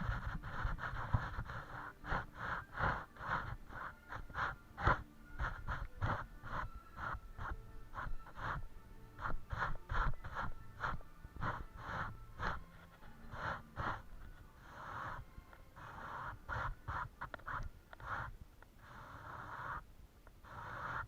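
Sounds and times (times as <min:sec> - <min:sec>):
paintbrush strokes on canvas: 0:00.0 - 0:21.0.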